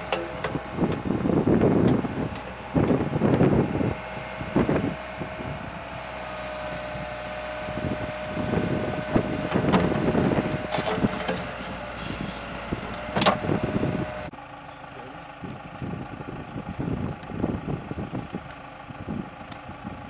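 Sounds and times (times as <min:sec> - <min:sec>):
backhoe engine whine: 0:00.0 - 0:20.0.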